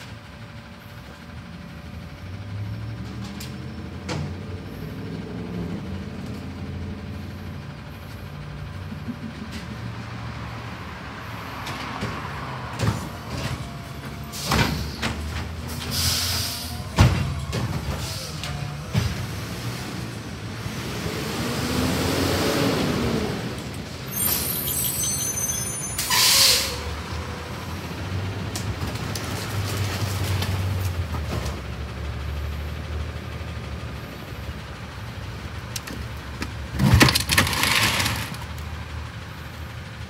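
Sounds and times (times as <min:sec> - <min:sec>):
garbage truck diesel engine: 0:00.0 - 0:40.0.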